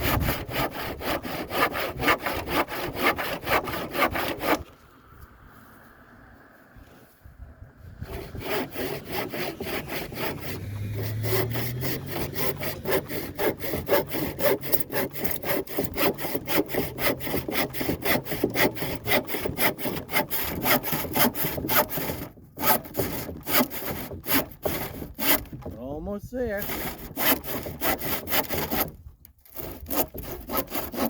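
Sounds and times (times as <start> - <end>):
handsaw cutting wood: 0.0 - 4.8, 8.0 - 25.8, 26.5 - 31.0.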